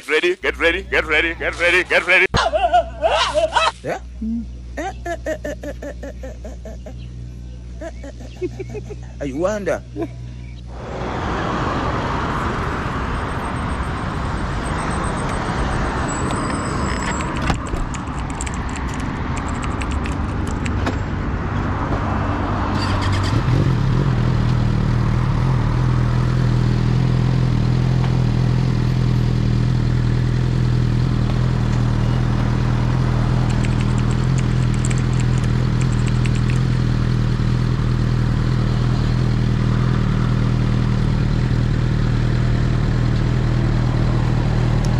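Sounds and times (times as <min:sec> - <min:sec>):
steady motorcycle engine drone: 0:03.8 - 0:44.9
wind and road noise: 0:06.8 - 0:44.9.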